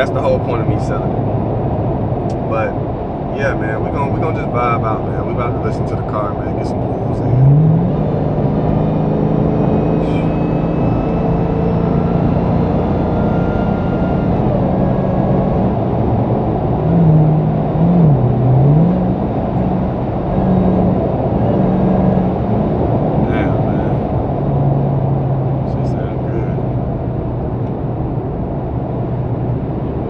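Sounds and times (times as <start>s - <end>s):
car engine running: 0.0s - 30.0s
road noise: 0.0s - 30.0s.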